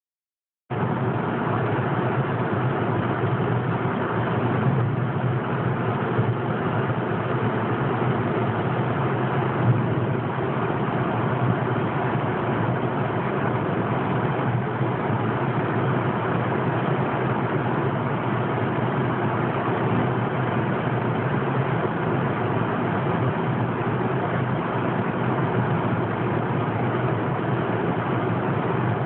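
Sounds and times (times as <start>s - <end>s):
car driving at highway speed: 0.7s - 29.0s.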